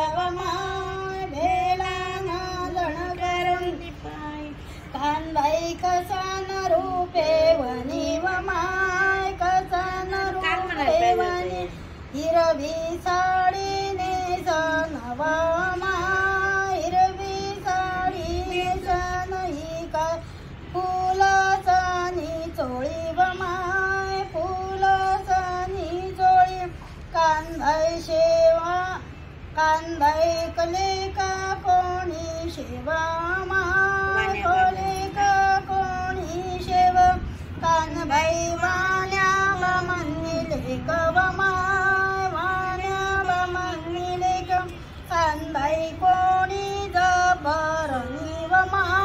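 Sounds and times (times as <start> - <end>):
woman singing devotional song: 0.0 - 49.0.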